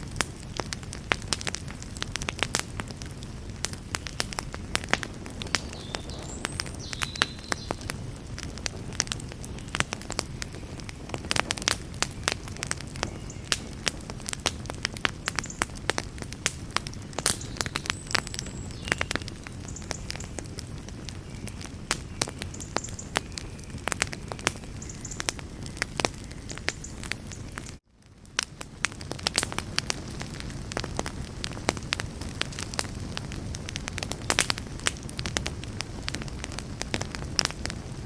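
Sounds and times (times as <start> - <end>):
campfire crackling and popping: 0.0 - 38.0
low rush of flame: 0.0 - 38.0.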